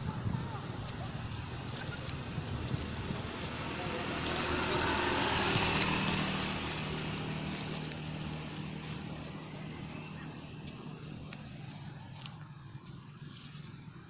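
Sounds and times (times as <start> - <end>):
motor vehicle passing by: 1.2 - 14.0.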